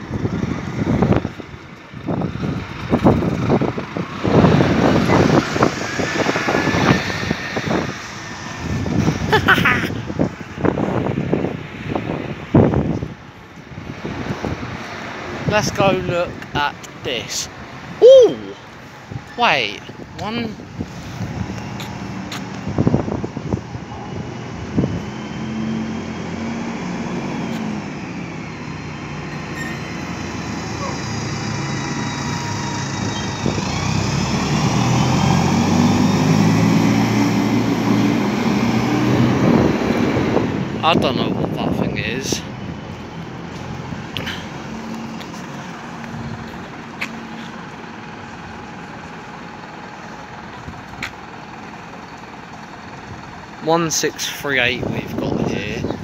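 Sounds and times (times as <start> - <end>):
lorry diesel engine running: 0.0 - 15.5, 18.6 - 56.0
road traffic: 0.0 - 56.0.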